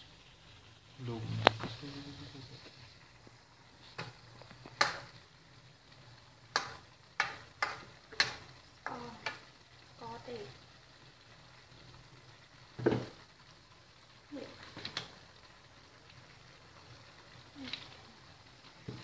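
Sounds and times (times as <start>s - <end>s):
faint sizzle: 0.0s - 19.0s.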